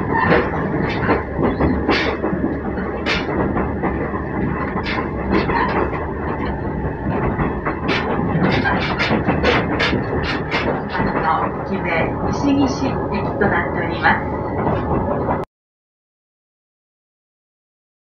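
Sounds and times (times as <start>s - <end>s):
train engine and wheels rumbling: 0.0s - 15.5s
wheels clicking over rails: 0.0s - 15.5s.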